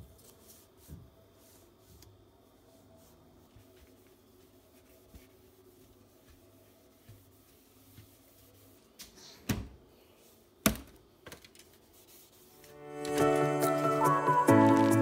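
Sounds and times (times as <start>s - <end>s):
cloth wiping: 0.1s - 9.4s, 11.8s - 15.0s.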